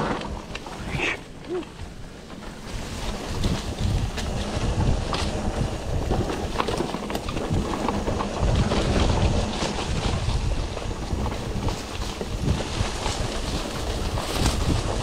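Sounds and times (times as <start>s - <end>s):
mountain bike rattling: 0.0s - 15.0s
wind rumbling on microphone: 0.0s - 15.0s.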